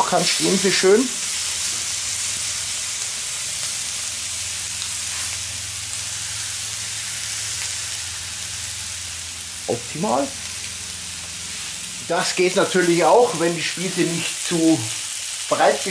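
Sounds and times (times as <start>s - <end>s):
skewers sizzling on grill: 0.0s - 15.9s.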